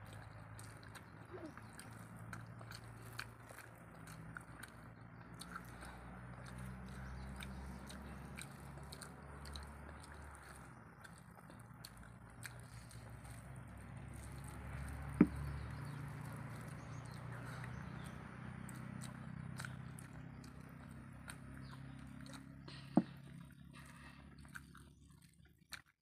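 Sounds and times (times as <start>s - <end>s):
soft chewing: 0.0s - 26.0s.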